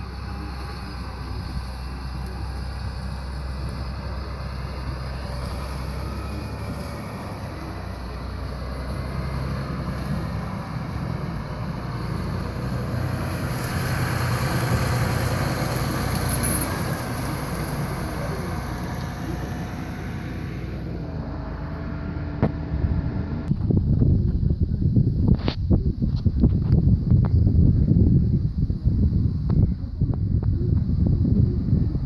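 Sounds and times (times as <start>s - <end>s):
harvest machinery engine drone: 0.0s - 32.0s.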